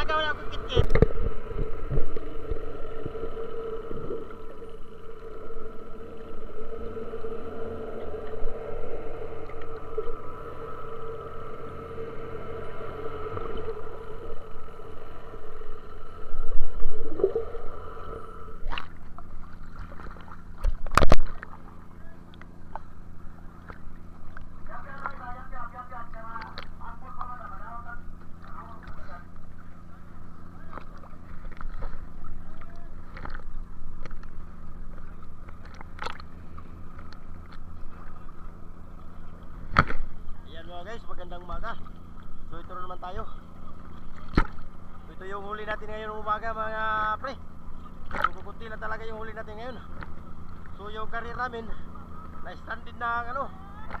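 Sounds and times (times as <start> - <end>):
boat engine droning: 0.0 - 54.0
rumbling water: 0.0 - 54.0.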